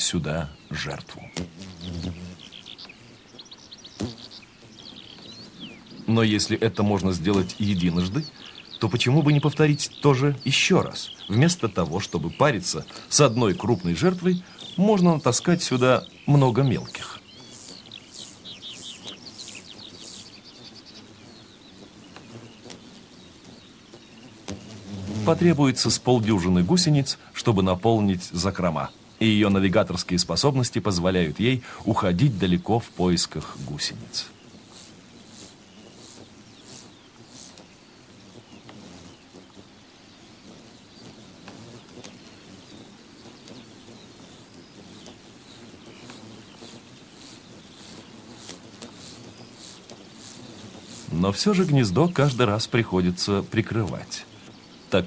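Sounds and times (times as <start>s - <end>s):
bird chirping: 0.0s - 55.0s
soft outdoor hiss: 0.0s - 55.0s.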